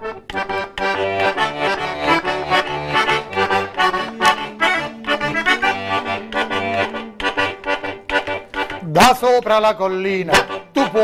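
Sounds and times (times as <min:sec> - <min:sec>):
accordion playing folk tune: 0:00.0 - 0:11.0.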